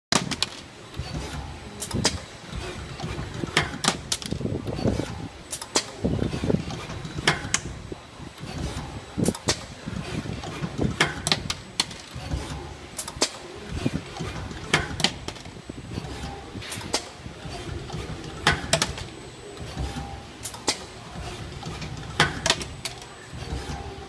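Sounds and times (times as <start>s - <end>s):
machine whir: 0.1s - 24.0s.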